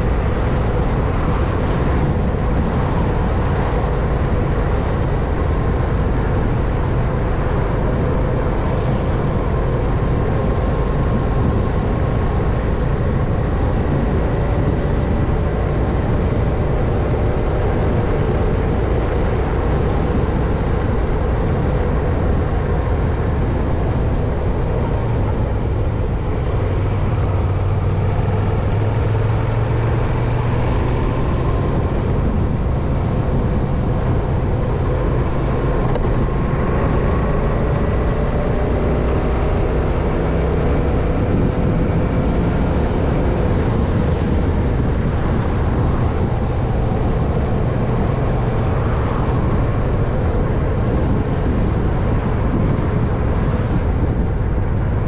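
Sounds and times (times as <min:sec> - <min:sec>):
bicycle road noise: 0:00.0 - 0:55.0.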